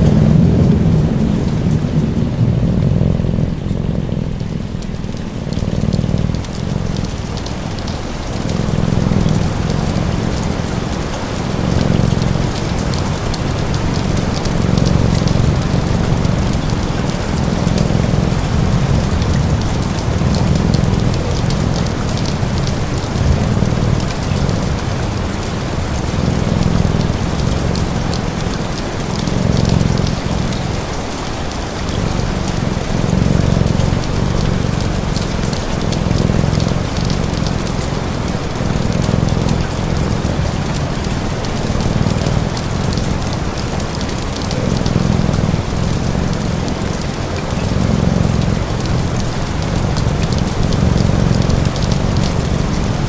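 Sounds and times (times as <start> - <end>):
cat purring: 0.0 - 53.0
steady rain: 0.0 - 53.0
wood fire crackles: 0.0 - 53.0.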